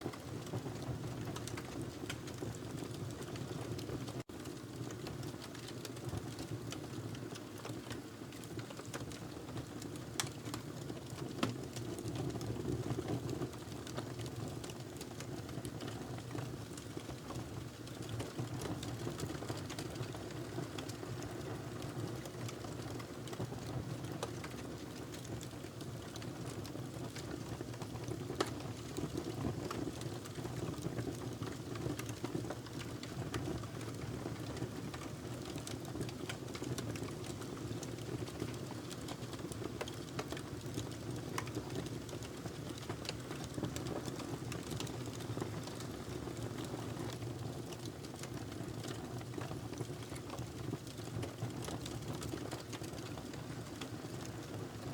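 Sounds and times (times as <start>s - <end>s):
fire rumbling in fireplace: 0.1s - 54.9s
fire crackling and popping: 0.2s - 54.6s.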